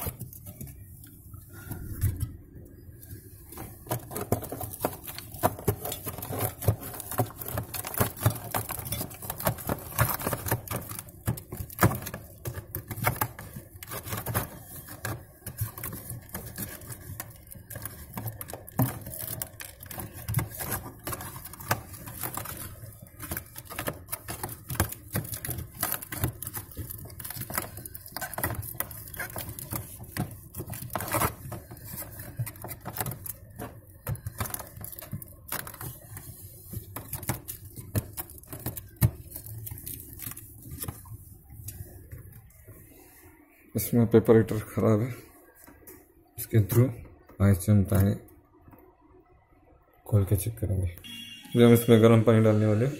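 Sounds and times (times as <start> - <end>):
plastic crinkling and scraping ice: 0.0 - 48.6.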